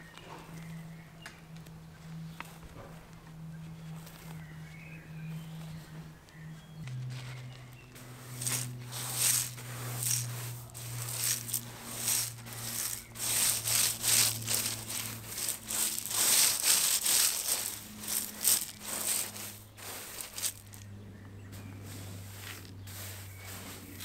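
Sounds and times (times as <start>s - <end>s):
gloved hands scraping gravel: 3.6s - 24.0s.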